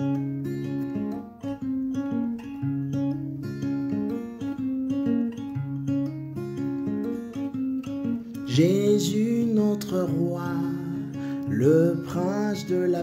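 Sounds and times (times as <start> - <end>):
guitar music over bass line: 0.0 - 13.0.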